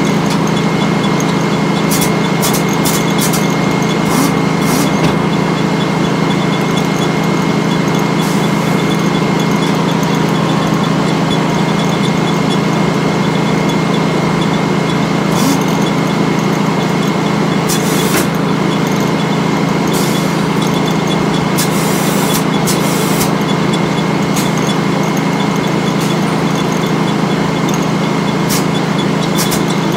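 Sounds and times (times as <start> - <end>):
sawmill machinery humming and whining: 0.0 - 29.9.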